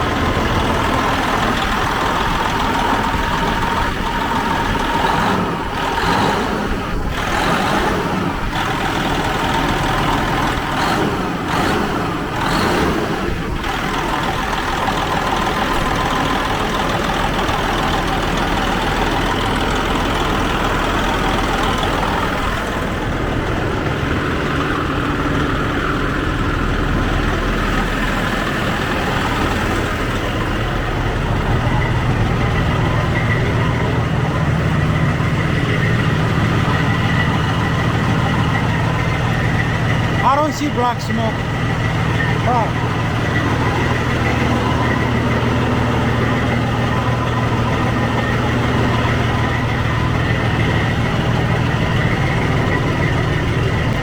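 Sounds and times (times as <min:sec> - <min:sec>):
diesel truck engine idling: 0:00.0 - 0:54.0
engine knocks: 0:00.0 - 0:54.0.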